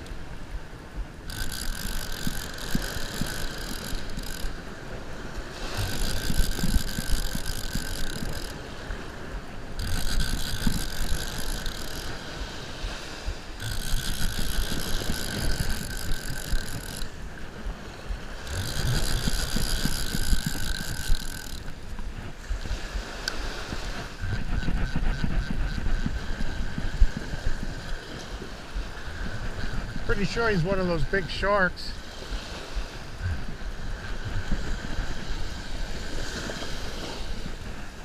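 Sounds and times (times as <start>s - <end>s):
wind rumble on microphone: 0.0s - 38.0s
fishing reel gears whirring: 0.1s - 38.0s.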